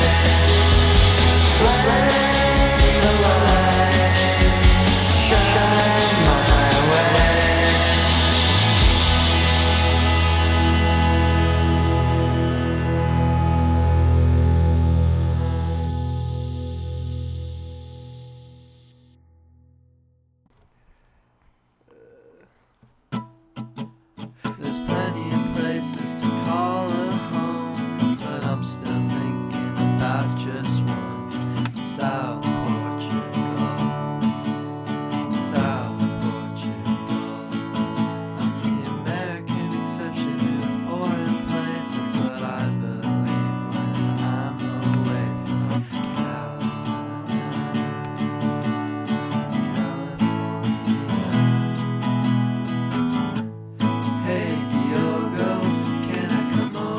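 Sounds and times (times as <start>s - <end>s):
acoustic guitar plucking and strumming: 0.0s - 19.8s, 20.5s - 56.9s.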